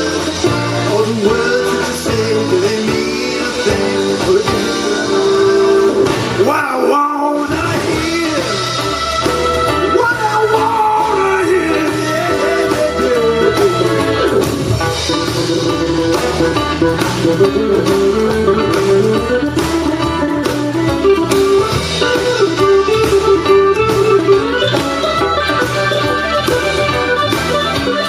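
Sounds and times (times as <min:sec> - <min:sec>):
bass: 0:00.0 - 0:28.0
electric guitar: 0:00.0 - 0:28.0
steady drum beat: 0:00.0 - 0:28.0.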